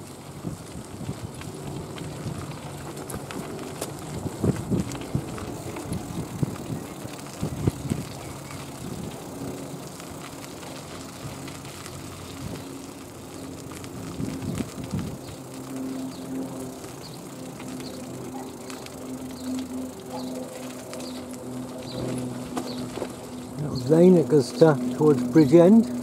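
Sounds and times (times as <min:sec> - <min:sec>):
bicycle rattles and knocks: 0:00.0 - 0:26.0
bicycle tyres on gravel: 0:00.0 - 0:26.0.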